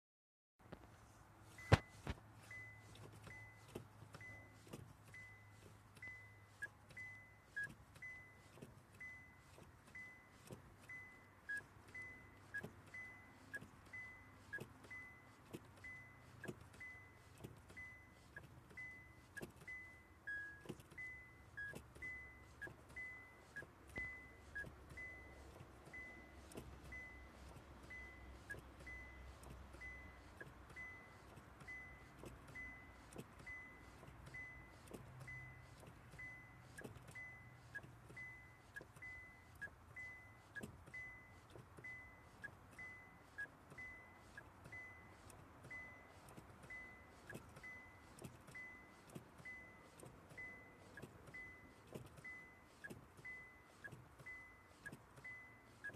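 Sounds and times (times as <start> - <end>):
car warning chime beeping: 1.0 - 55.9.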